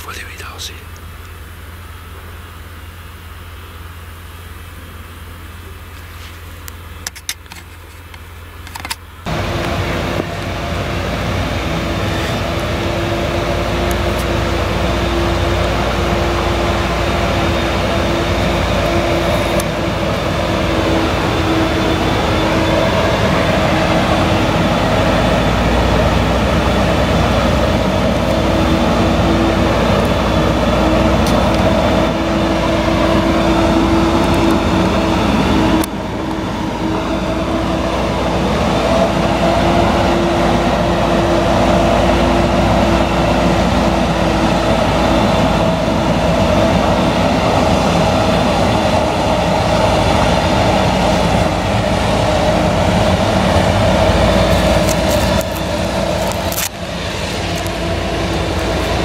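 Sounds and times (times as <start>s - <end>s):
constant machine whine: 0.0s - 59.0s
harvester engine drone: 0.0s - 59.0s.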